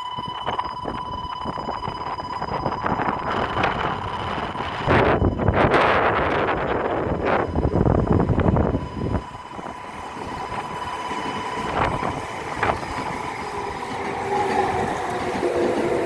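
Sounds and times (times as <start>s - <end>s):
electric train motor whine: 0.0s - 16.0s
wind on microphone: 0.0s - 16.0s.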